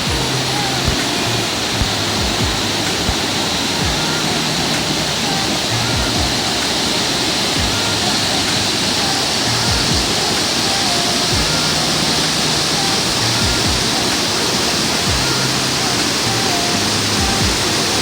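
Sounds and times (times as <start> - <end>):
mountain stream rushing: 0.0 - 18.0.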